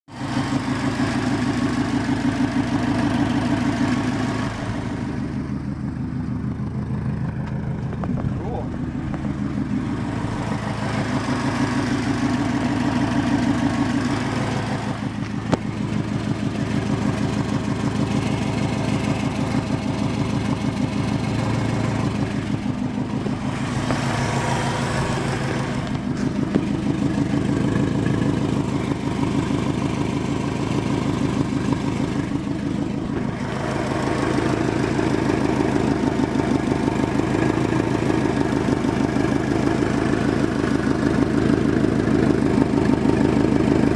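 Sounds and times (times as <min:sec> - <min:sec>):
engine idling with pulsing exhaust: 0:00.1 - 0:43.9.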